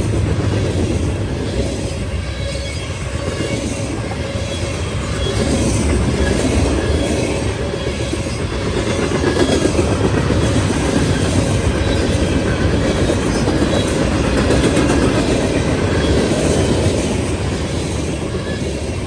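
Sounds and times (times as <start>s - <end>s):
clickety-clack over rail joints: 0.0s - 19.0s
train wheels rumbling on rails: 0.0s - 19.0s.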